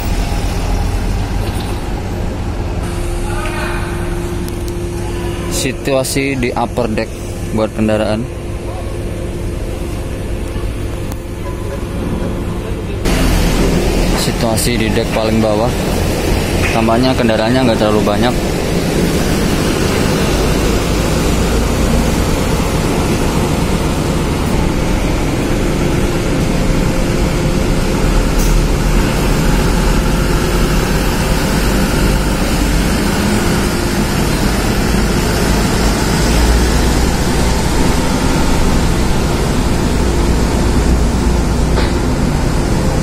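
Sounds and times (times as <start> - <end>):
low engine rumble: 0.0 - 43.0
truck driving slowly: 0.0 - 43.0.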